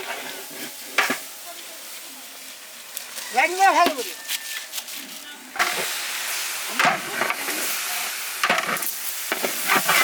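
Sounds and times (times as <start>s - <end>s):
rice frying in hot oil: 0.0s - 10.0s.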